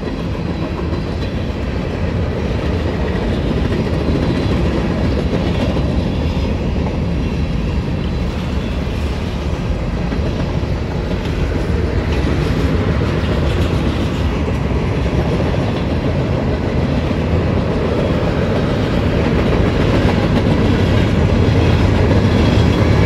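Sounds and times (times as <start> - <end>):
locomotive engine drone: 0.0 - 23.0
train wheels rumbling and clacking: 0.0 - 23.0.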